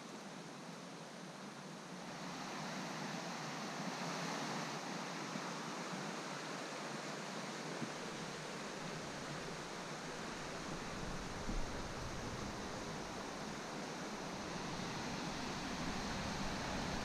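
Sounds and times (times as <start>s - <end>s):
river water rushing: 1.5s - 17.0s.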